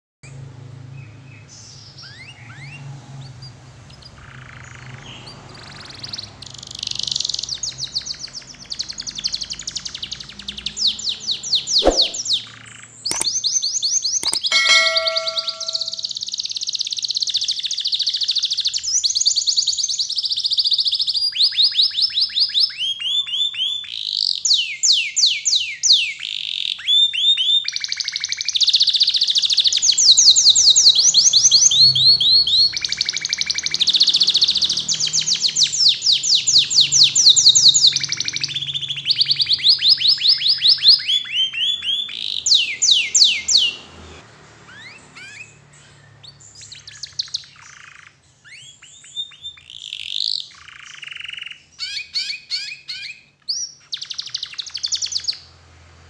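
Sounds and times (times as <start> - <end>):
canary singing trills: 1.0 - 43.9, 44.7 - 55.5.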